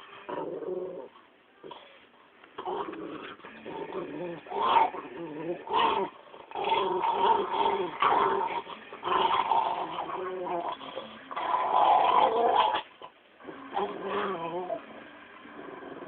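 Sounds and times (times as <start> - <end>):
dog growling and whining: 0.0 - 2.0, 2.6 - 16.0.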